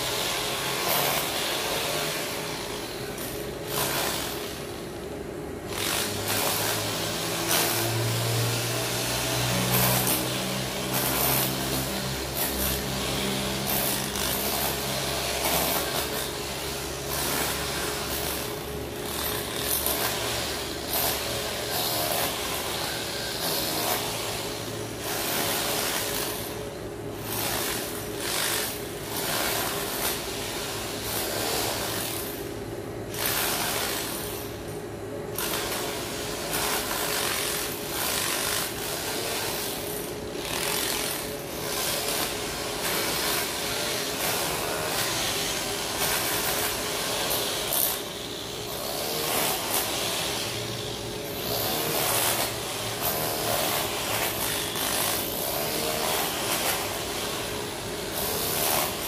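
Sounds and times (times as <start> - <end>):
rasping grinding noise: 0.0 - 34.7, 35.3 - 59.0
mechanical hum: 0.0 - 59.0.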